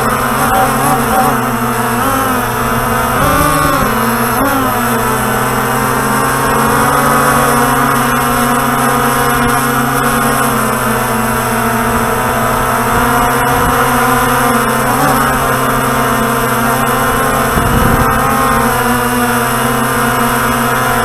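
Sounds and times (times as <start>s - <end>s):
drone motors humming: 0.0s - 21.0s.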